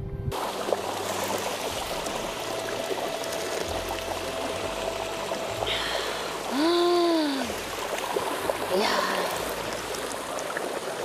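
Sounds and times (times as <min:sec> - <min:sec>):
mountain stream running: 0:00.4 - 0:11.0.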